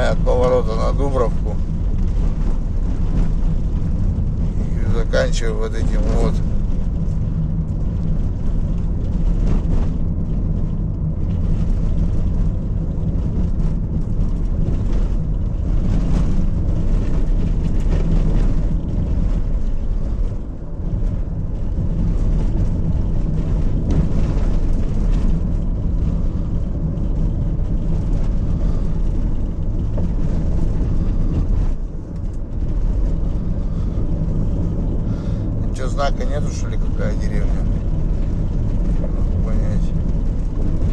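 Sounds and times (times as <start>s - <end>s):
car engine running: 0.0s - 40.9s
car jolting over bumps: 0.0s - 40.9s
tyre and road noise: 0.0s - 40.9s.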